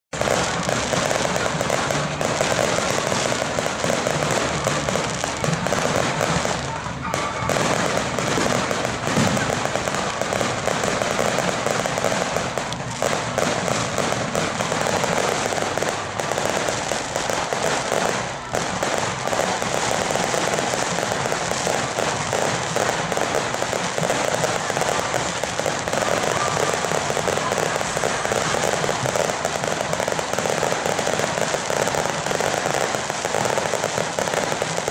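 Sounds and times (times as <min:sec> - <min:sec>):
fireworks crackling: 0:00.1 - 0:34.9.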